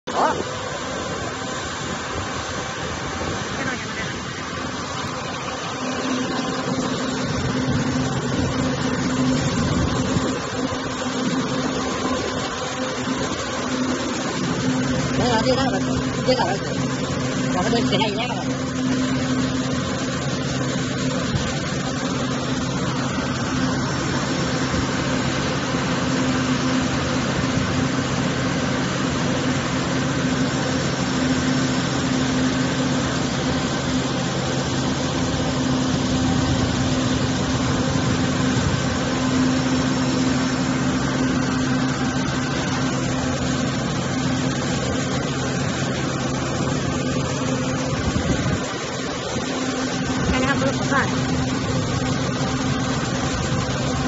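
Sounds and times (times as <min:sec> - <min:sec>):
mist cannon machine hum: 0:00.0 - 0:54.0.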